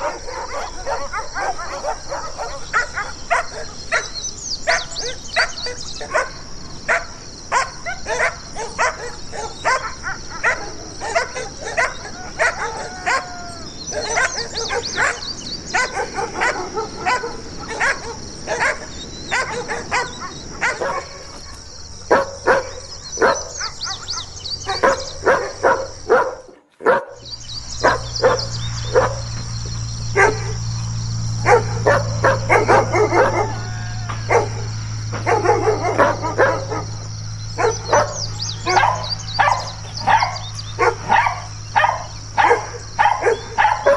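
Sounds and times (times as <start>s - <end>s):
dogs barking aggressively: 0.0s - 43.9s
steady low hum: 0.0s - 43.9s.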